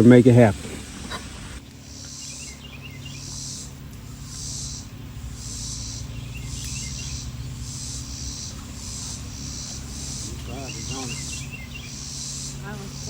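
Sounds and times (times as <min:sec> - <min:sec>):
steady low hum: 0:00.0 - 0:13.0
insects shrilling in pulses: 0:00.1 - 0:13.0
faint bird chirps: 0:01.1 - 0:13.0.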